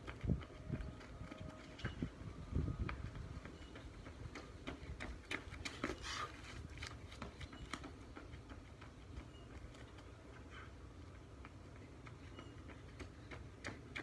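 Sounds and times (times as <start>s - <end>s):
running footsteps on concrete: 0.0s - 14.0s.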